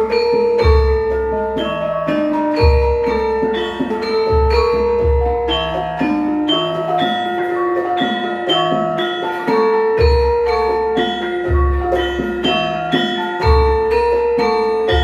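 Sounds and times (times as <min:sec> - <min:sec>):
metallophones playing melody: 0:00.0 - 0:15.0.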